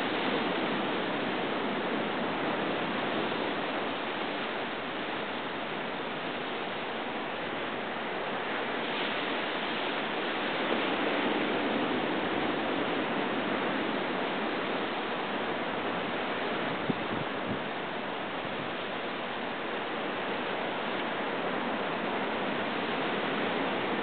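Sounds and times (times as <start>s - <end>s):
ocean surf on rocky shore: 0.0s - 24.0s.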